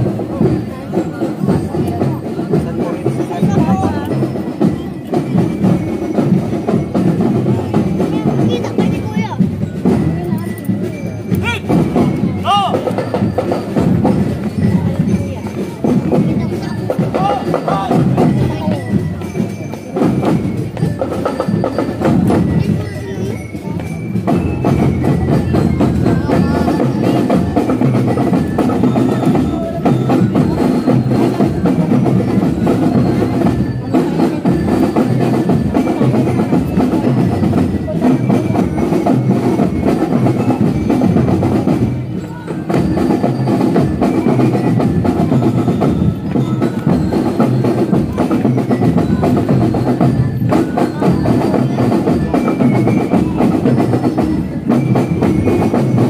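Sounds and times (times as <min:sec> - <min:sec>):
drums steady beat: 0:00.0 - 0:56.0
marching band playing: 0:00.0 - 0:56.0.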